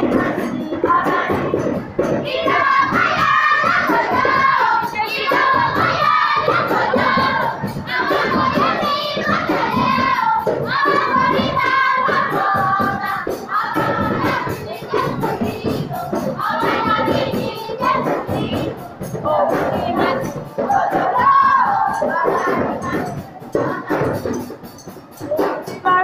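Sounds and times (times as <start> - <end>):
congregation singing in unison: 0.0 - 24.6
rhythmic hand clapping: 0.0 - 26.0.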